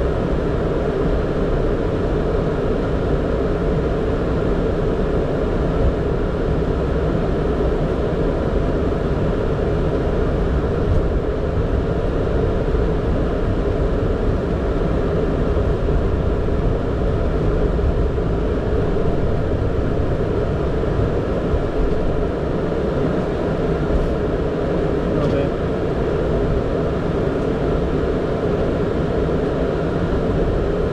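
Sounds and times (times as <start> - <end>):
jet engines idling: 0.1 - 30.9.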